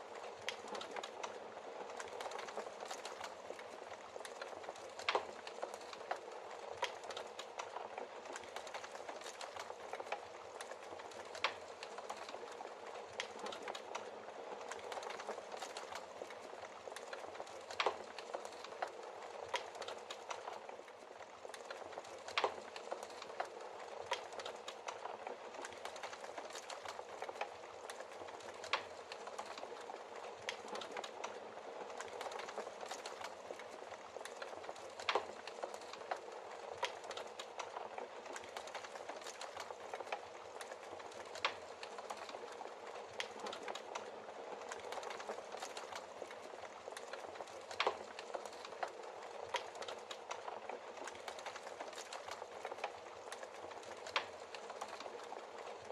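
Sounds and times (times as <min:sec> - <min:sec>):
wood fire crackling: 0:00.0 - 0:55.9
fire popping: 0:00.1 - 0:55.9.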